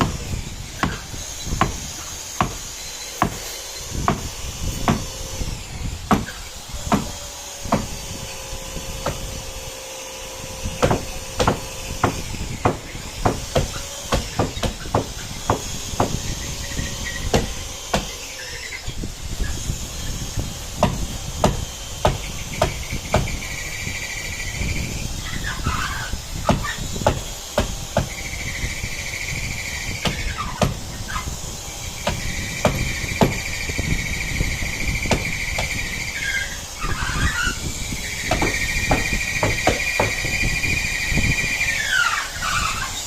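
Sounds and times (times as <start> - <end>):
hammer blows on wood: 0.0 - 5.3, 6.1 - 9.4, 10.4 - 18.2, 20.3 - 24.0, 24.7 - 42.0.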